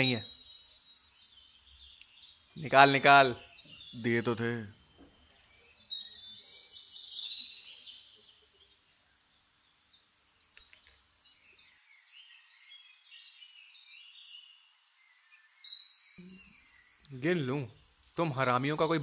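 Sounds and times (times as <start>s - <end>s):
faint outdoor background: 0.0s - 19.0s
small birds chirping: 0.0s - 19.0s.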